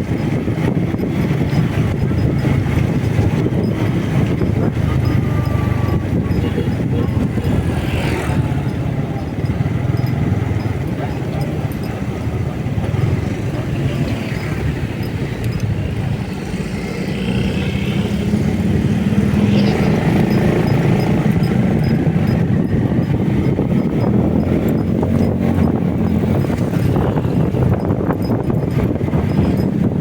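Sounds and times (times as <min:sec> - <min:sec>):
motorcycle engine droning: 0:00.0 - 0:30.0
wind noise on microphone: 0:00.0 - 0:30.0.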